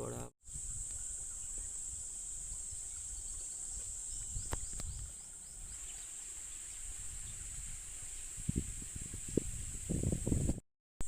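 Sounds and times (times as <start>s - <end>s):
insects droning: 0.0s - 10.4s.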